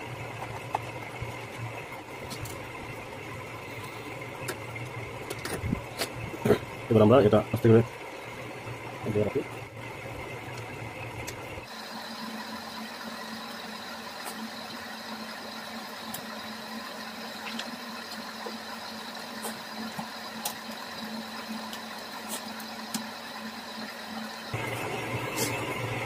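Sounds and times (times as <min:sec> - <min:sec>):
steady hum with hiss: 0:00.0 - 0:26.0.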